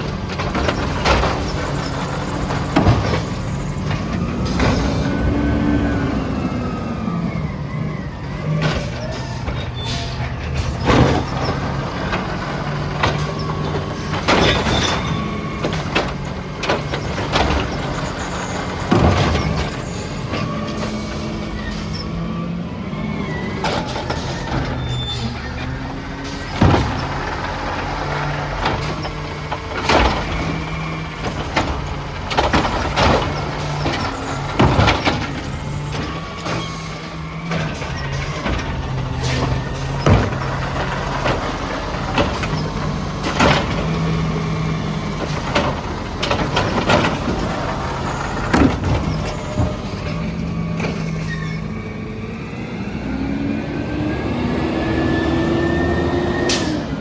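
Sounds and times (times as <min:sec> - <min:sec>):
sharp clanks and bangs: 0:00.0 - 0:05.4, 0:08.5 - 0:22.2, 0:23.6 - 0:51.6
garbage truck engine running: 0:00.0 - 0:57.0.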